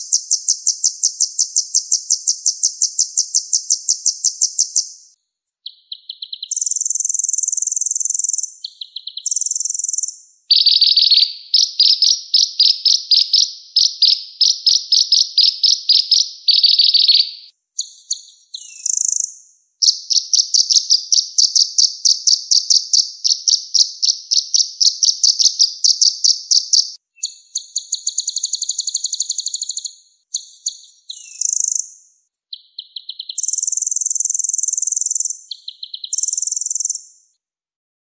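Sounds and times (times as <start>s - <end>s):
songbird singing trills: 0.0s - 37.4s.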